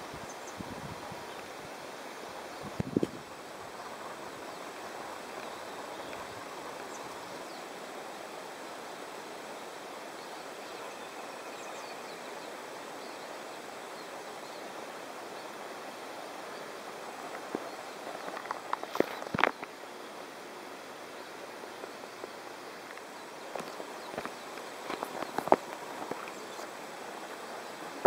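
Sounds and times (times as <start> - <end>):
outdoor noise rush: 0.0 - 28.0.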